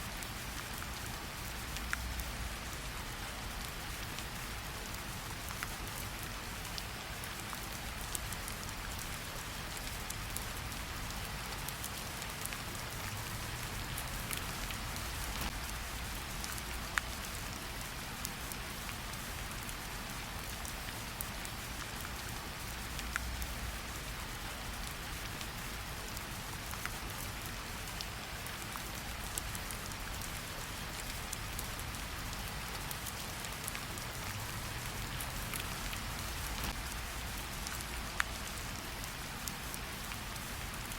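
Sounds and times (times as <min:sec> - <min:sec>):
rain pattering on leaves: 0:00.0 - 0:40.9.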